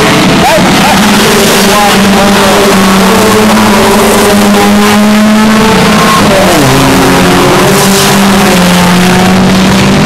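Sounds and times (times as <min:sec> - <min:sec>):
race car engines at high revs: 0:00.0 - 0:10.0.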